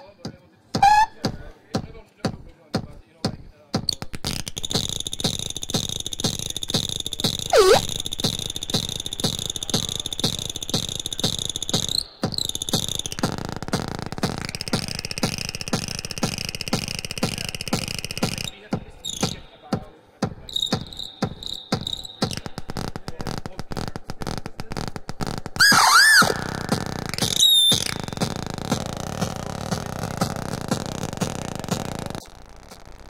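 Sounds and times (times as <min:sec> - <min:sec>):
kick drum pulsing: 0:00.8 - 0:32.3.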